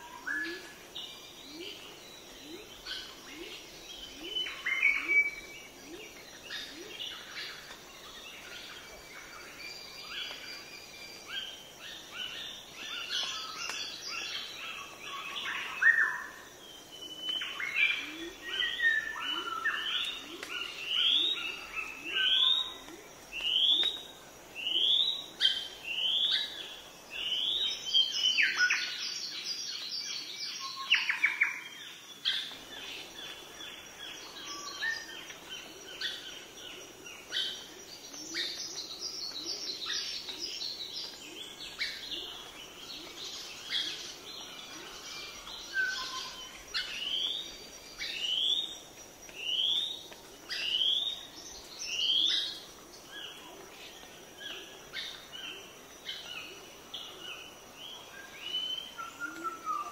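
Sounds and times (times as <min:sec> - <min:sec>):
birds trilling and twittering: 0:00.0 - 0:59.9.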